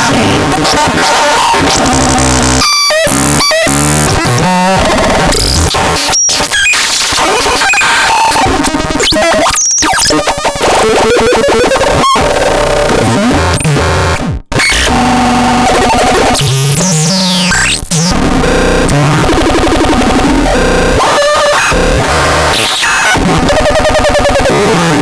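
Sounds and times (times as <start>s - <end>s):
harsh electronic noise: 0.0s - 25.0s.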